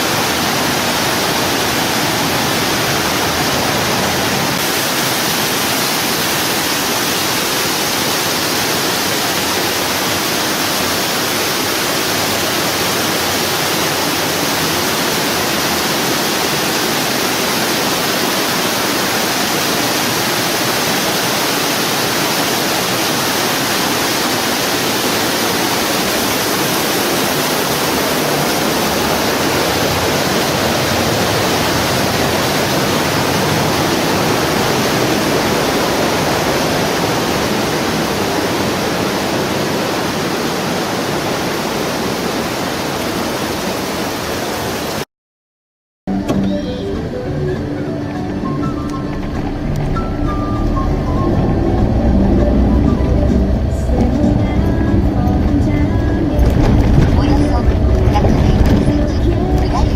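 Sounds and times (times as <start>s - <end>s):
rush of falling water: 0.0s - 45.1s, 47.9s - 59.9s.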